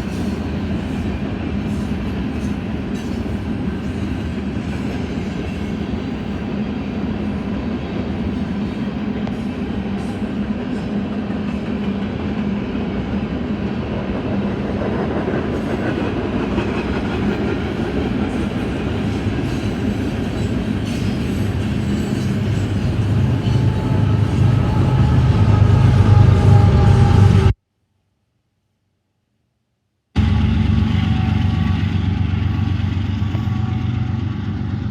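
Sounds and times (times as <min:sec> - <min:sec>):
train wheels rumbling on rails: 0:00.0 - 0:27.6, 0:30.2 - 0:34.9.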